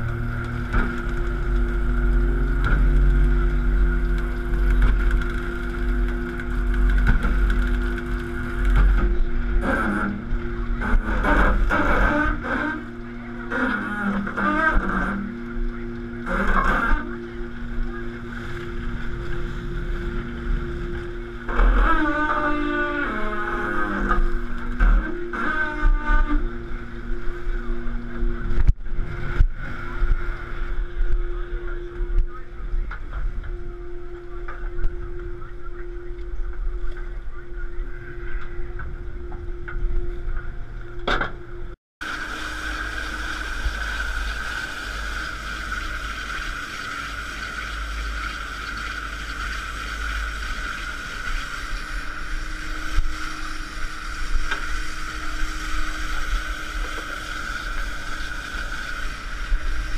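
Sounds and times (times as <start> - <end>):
boat engine rumbling: 0.0 - 59.9
steady whine: 0.0 - 59.9.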